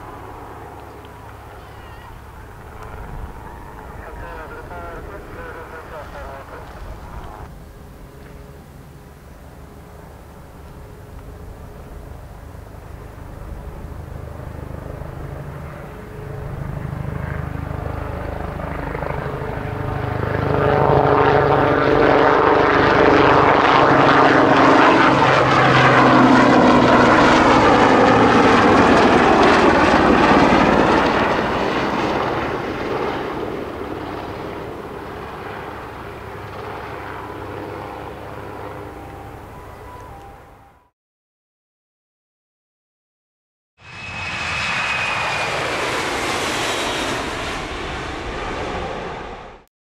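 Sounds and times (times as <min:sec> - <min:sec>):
helicopter flying past: 0:00.0 - 0:40.7, 0:43.8 - 0:49.6.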